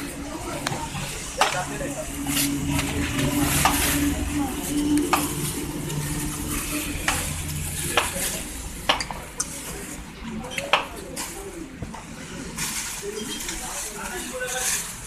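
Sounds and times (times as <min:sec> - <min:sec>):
leaves rustling and crackling: 0:00.4 - 0:10.1, 0:12.5 - 0:15.0.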